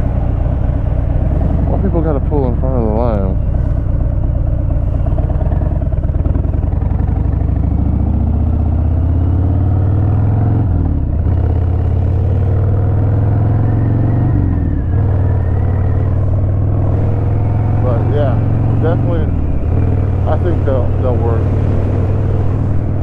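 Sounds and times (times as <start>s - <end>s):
motorcycle accelerating: 0.0s - 23.0s.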